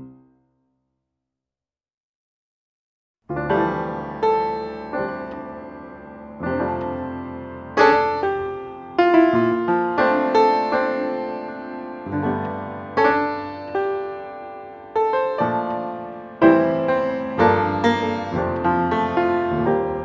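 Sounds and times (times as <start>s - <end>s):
piano music: 3.3s - 20.0s.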